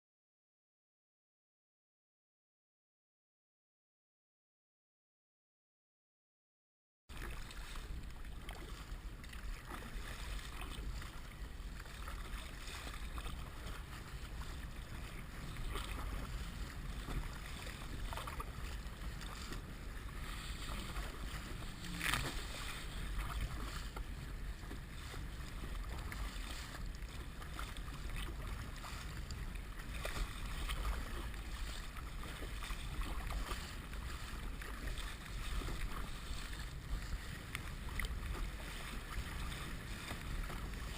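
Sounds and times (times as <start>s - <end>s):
water splashing around kayak: 7.1s - 40.9s.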